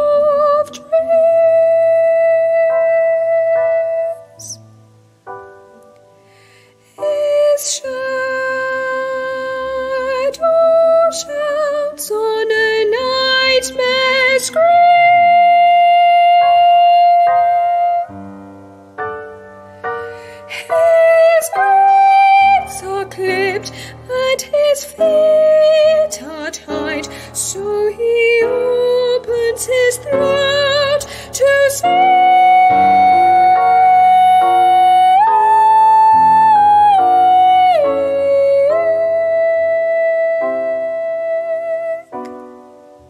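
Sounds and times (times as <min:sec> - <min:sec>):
soprano singing with vibrato: 0:00.0 - 0:04.7, 0:06.9 - 0:18.4, 0:20.0 - 0:42.4
piano accompaniment: 0:00.0 - 0:43.0.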